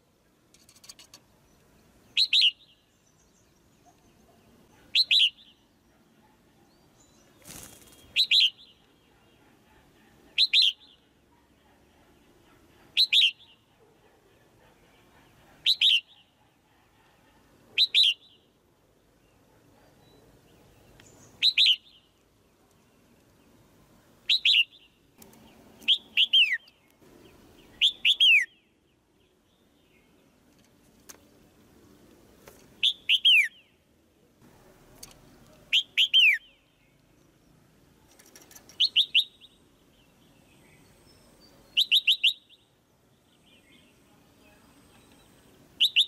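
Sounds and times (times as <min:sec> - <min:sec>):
bird chirping calls: 0:00.2 - 0:31.2, 0:32.6 - 0:33.8, 0:35.5 - 0:46.0.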